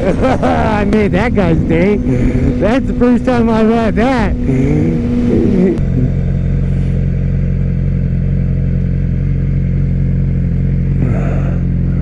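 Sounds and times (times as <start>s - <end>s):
motorcycle engine droning: 0.0s - 12.0s
wind and road noise: 0.0s - 12.0s.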